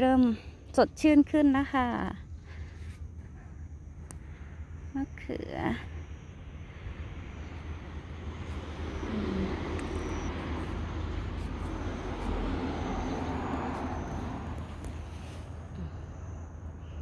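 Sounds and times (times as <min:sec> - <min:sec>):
distant engine rushing hum: 0:00.0 - 0:17.0.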